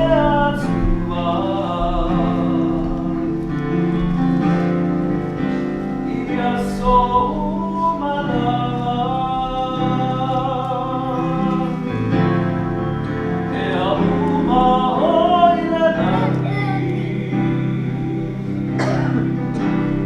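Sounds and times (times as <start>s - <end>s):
group singing slow song: 0.0s - 20.0s
instrumental accompaniment: 0.0s - 20.0s.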